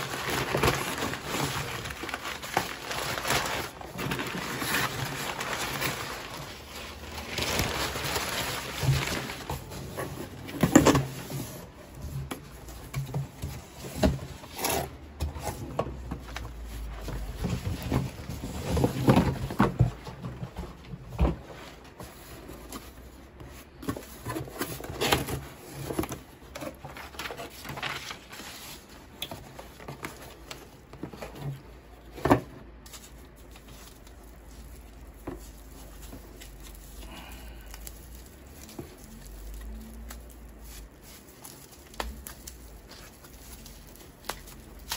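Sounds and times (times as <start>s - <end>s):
paper rustling and crinkling: 0.0s - 44.9s.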